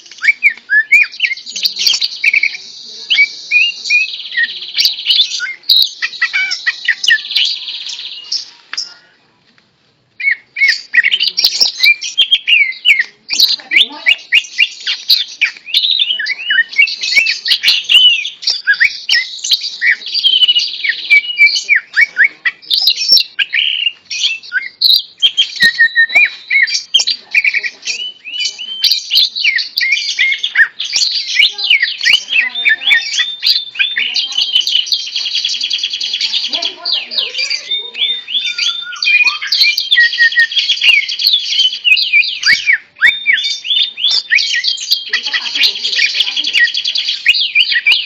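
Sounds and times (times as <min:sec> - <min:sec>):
bird singing: 0:00.0 - 0:09.3, 0:10.2 - 0:48.0.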